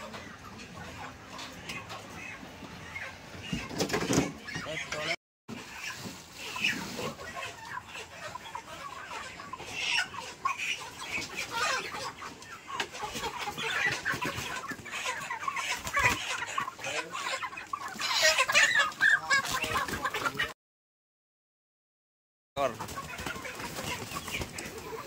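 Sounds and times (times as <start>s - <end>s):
chickens clucking and squawking: 0.0s - 20.6s, 22.6s - 25.0s.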